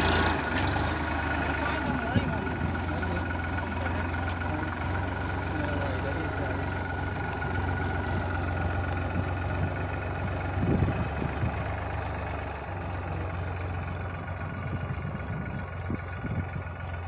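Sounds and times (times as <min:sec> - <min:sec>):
low rumble: 0:00.0 - 0:17.0
tractor diesel engine running: 0:00.0 - 0:17.0.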